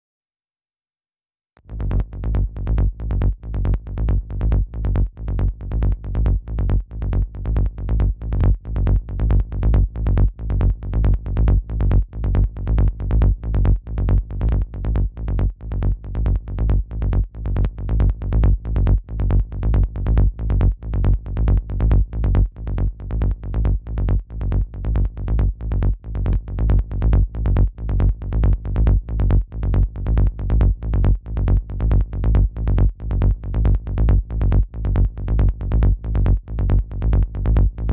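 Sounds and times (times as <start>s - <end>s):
synth bass repeated low note: 1.6s - 37.9s.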